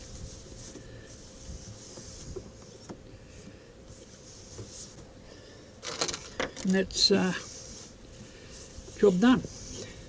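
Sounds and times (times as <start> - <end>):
cloth wiping plastic: 0.0 - 5.1, 5.8 - 10.0.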